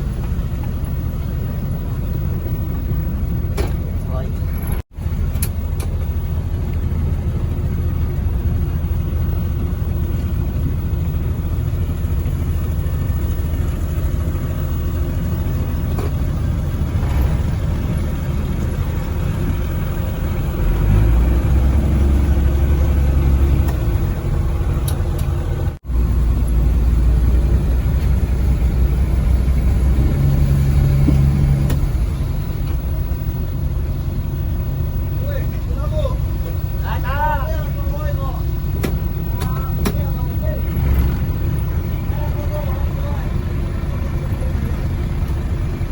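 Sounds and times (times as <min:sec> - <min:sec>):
engine droning: 0:00.0 - 0:45.9.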